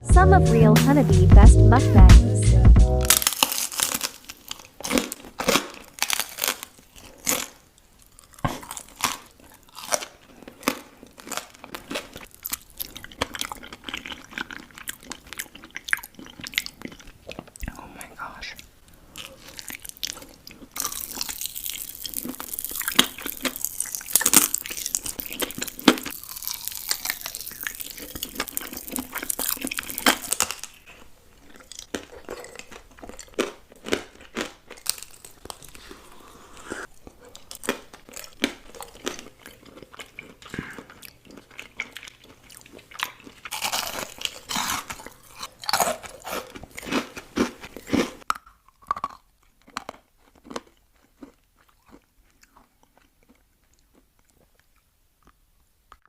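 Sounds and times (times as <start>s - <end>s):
crunchy bites and chewing: 3.0s - 17.7s, 19.0s - 55.4s.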